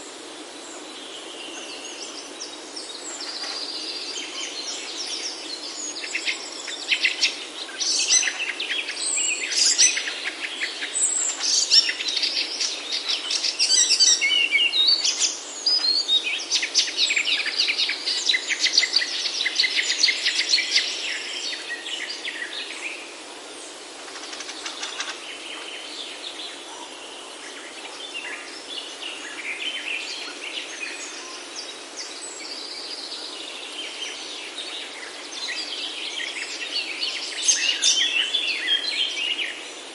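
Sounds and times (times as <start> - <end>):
forest birds singing and chirping: 0.0 - 39.9.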